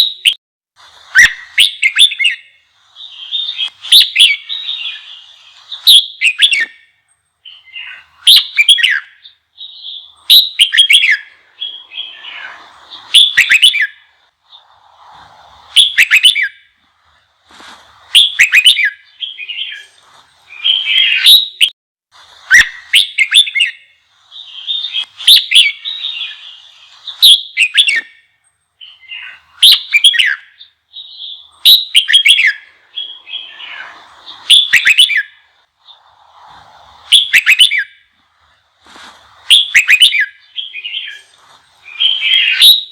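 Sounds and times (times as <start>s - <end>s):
bulbul whistled song: 0.0s - 42.9s.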